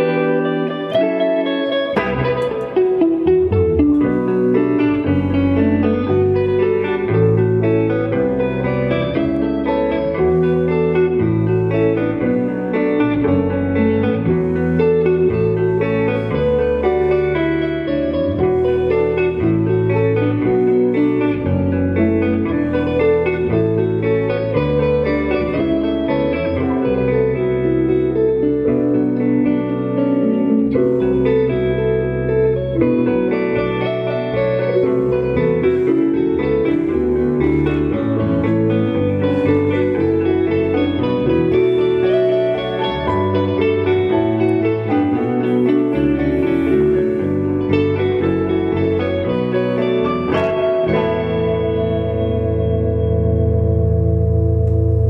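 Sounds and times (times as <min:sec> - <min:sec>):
guitar chords: 0:00.0 - 0:55.0
rock band playing live: 0:00.0 - 0:55.0
bass line: 0:02.0 - 0:55.0.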